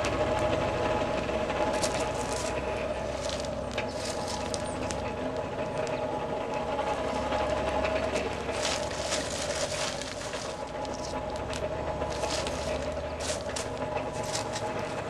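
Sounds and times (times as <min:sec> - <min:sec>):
hand-crank blower whirring: 0:00.0 - 0:15.0.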